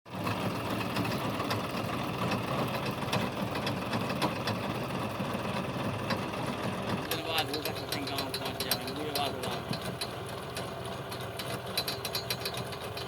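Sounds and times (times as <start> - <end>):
tractor engine hum: 0.1 - 13.0
harvester clattering: 0.2 - 13.0.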